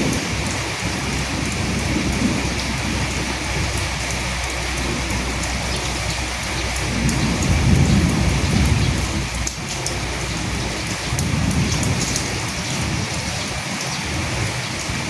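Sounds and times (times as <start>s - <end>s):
low rumble of thunder: 0.0s - 15.0s
steady rain falling: 0.0s - 15.0s.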